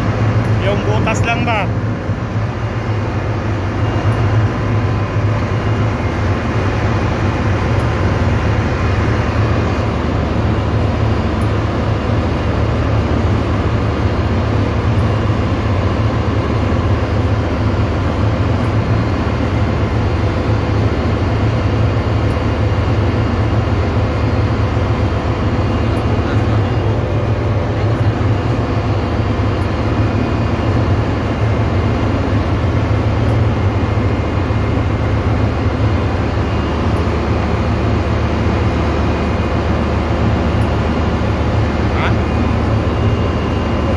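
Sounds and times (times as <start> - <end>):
engine room machinery hum: 0.0 - 43.9.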